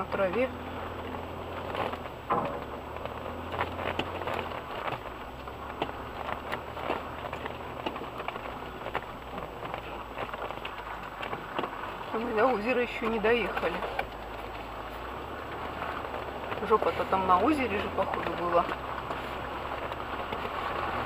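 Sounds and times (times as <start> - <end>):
knocks and crackles of mud: 0.0 - 21.0
low engine hum: 0.0 - 21.0.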